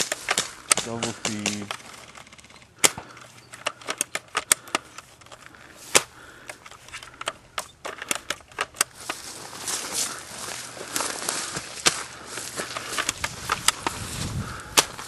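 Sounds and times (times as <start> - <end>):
airsoft guns clicking and snapping: 0.0 - 9.3, 10.6 - 15.0.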